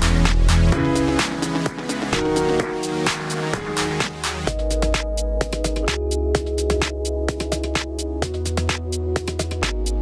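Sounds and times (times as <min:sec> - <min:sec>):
deep bass line: 0:00.0 - 0:02.7, 0:03.6 - 0:10.0
electronic music with fast beat: 0:00.0 - 0:10.0.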